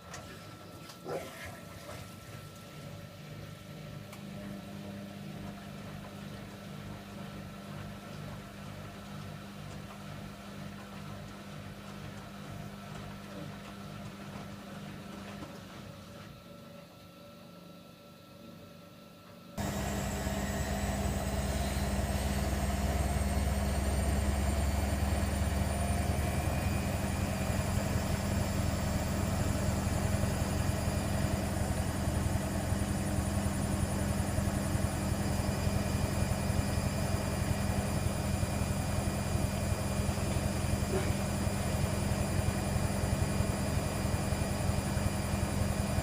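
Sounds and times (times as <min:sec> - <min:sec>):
washer-dryer motor whirring: 0:00.0 - 0:46.0.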